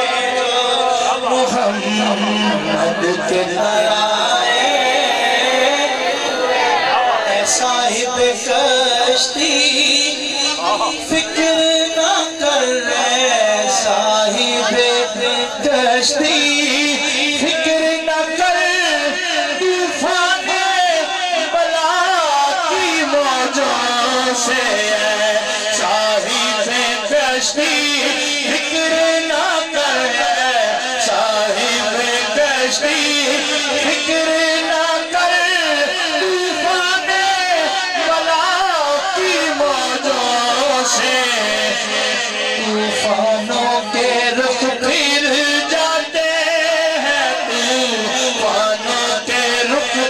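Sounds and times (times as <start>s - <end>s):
man singing a slow chant: 0.0s - 6.3s, 7.2s - 50.0s.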